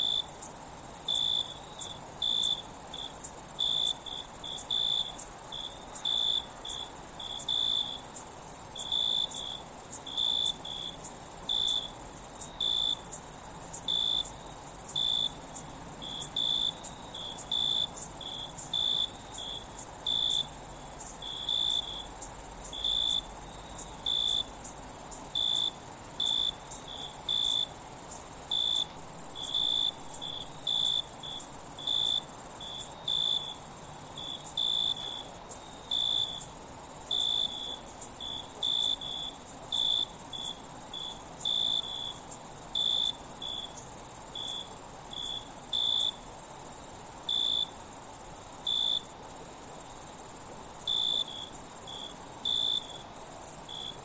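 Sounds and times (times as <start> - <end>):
cricket chirping: 0.0 - 54.0
high-pitched insect trill: 0.0 - 54.0.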